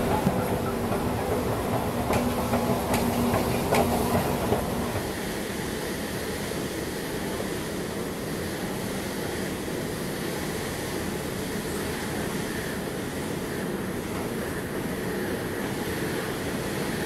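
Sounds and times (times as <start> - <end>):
rail car rumble: 0.0 - 17.0.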